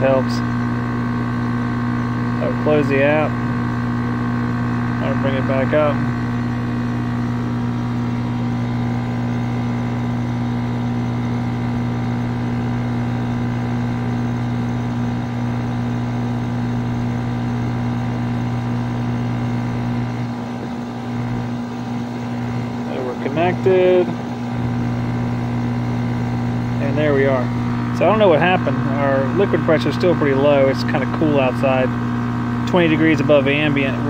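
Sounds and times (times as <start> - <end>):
heat pump compressor hum and fan: 0.0 - 34.0.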